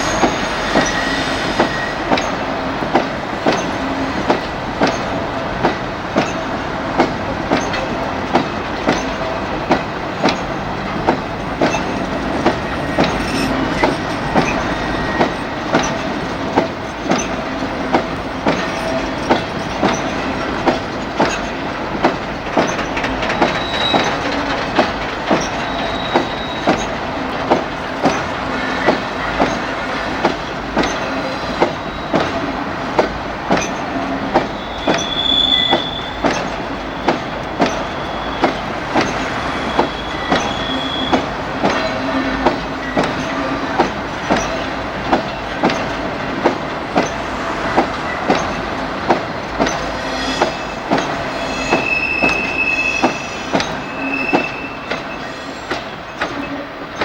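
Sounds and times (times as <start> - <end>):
high wheel squeals: 0.0 - 5.2, 7.5 - 30.2, 30.8 - 32.6, 33.6 - 49.0, 49.6 - 57.0
train wheels clicking over rail joints: 0.0 - 57.0.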